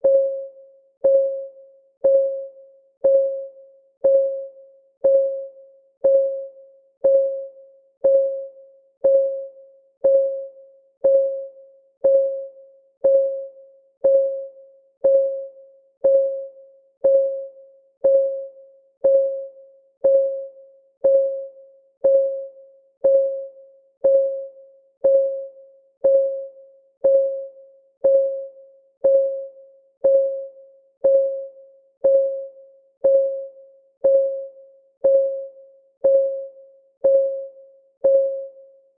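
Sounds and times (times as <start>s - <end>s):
timer clock ticking: 5.0s - 6.4s, 7.0s - 38.5s.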